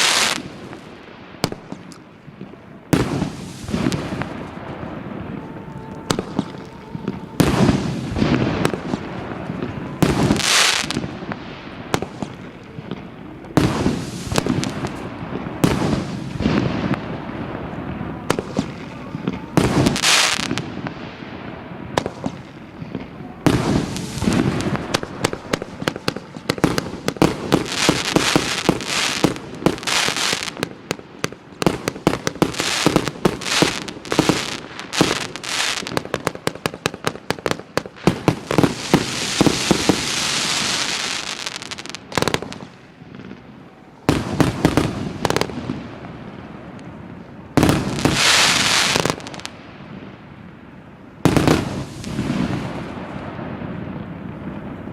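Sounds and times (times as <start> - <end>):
fireworks hiss: 0.0 - 43.4, 47.6 - 50.2, 51.2 - 53.7.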